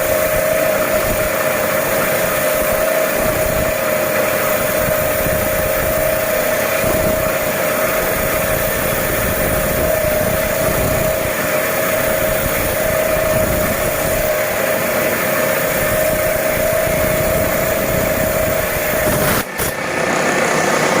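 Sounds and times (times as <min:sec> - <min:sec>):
cutting machine whine: 0:00.0 - 0:21.0.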